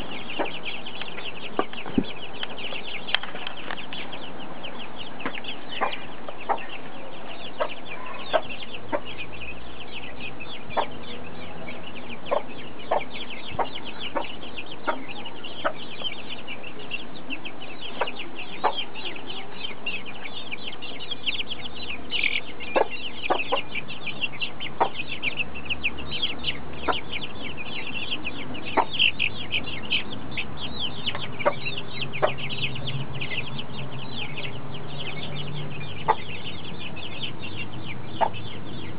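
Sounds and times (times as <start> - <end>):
chicks pecking at a feed dish: 0.0 - 38.9
chicks peeping: 0.0 - 38.9
hen clucking: 0.0 - 38.9.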